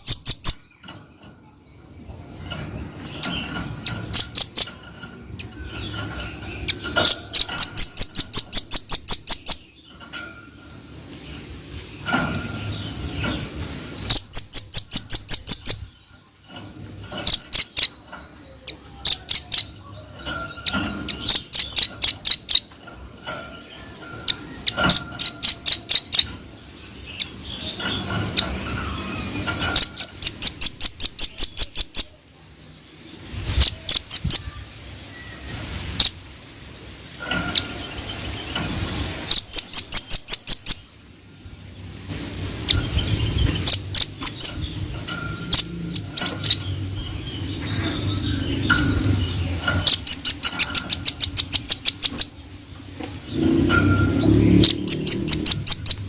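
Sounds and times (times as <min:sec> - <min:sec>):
bird singing high rapid notes: 0:00.0 - 0:56.0.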